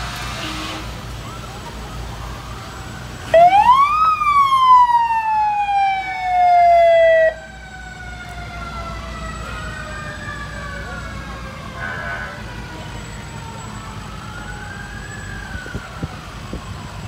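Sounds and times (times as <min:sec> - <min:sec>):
fire truck siren wailing: 0:00.0 - 0:17.0
low rumble of passing trucks: 0:00.0 - 0:17.0
second fainter siren: 0:00.3 - 0:17.0.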